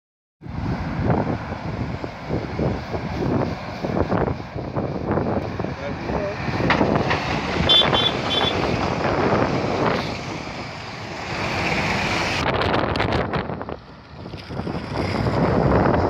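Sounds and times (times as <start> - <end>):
lorry passing and pulling away: 0.4 - 16.0
wind buffeting microphone: 0.4 - 16.0.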